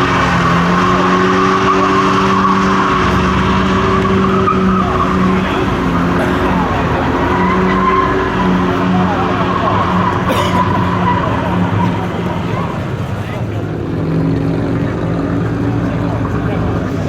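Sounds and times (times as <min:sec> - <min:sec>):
car engine at high revs: 0:00.0 - 0:17.0
tyres squealing on pavement: 0:00.0 - 0:17.0.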